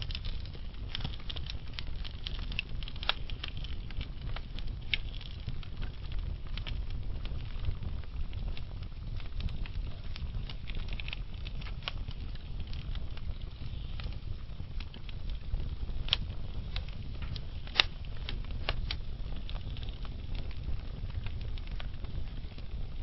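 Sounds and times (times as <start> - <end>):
fire crackles and pops: 0.0 - 23.0
wood fire rumbling: 0.0 - 23.0.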